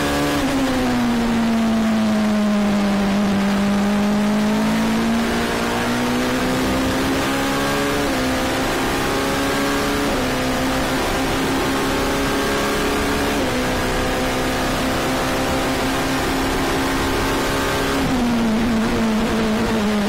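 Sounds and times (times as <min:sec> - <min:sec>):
race car engine accelerating: 0:00.0 - 0:20.0
wind and tyre noise: 0:00.0 - 0:20.0.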